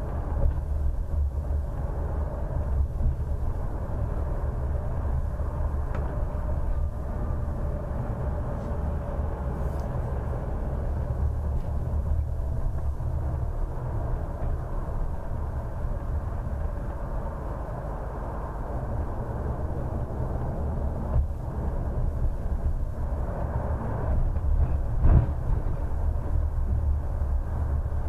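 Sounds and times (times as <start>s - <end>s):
bus engine and road rumble: 0.0s - 28.0s.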